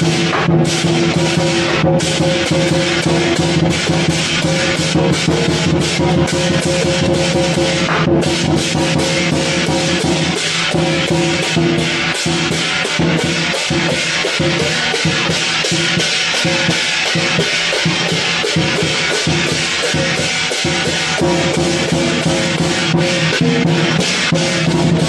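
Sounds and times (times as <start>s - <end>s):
cymbals clashing: 0.0s - 25.0s
drum beating: 0.0s - 25.0s.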